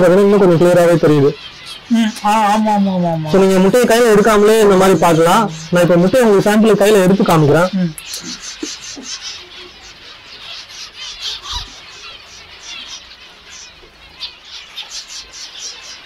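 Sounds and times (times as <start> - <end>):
finches chirping: 0.0 - 16.0.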